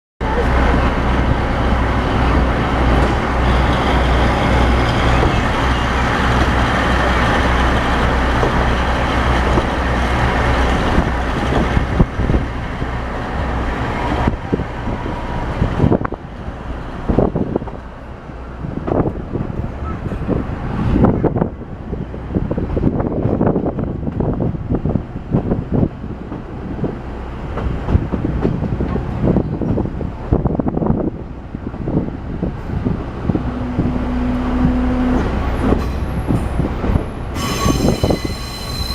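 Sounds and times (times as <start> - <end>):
wheels clacking on track: 0.2 - 38.9.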